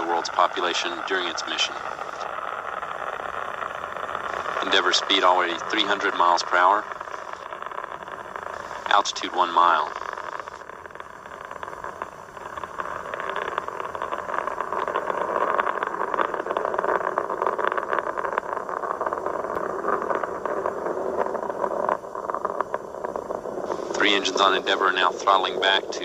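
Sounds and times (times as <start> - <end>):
crackling rocket rumble: 0.0 - 26.0.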